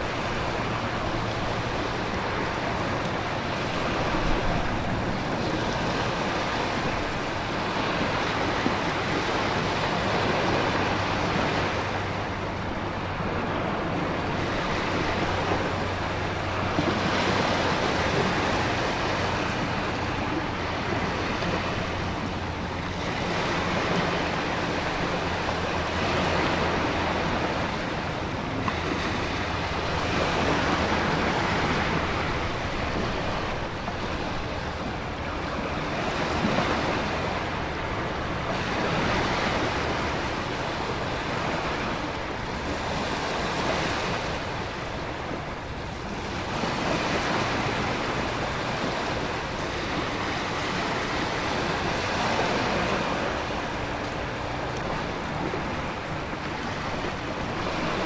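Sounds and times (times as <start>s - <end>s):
waves breaking on rocks: 0.0s - 58.0s
wind blowing: 0.0s - 58.0s.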